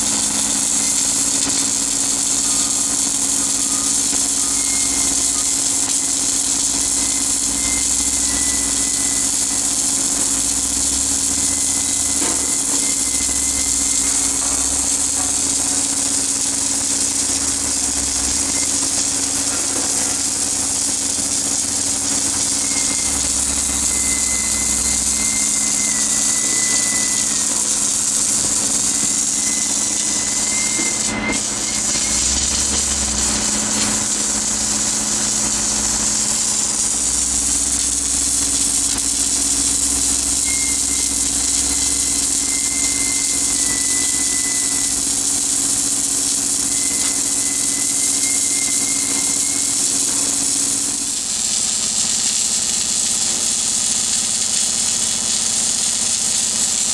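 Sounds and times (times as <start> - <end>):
high hiss of welding arc: 0.0 - 56.9
welding machine hum: 0.0 - 56.9.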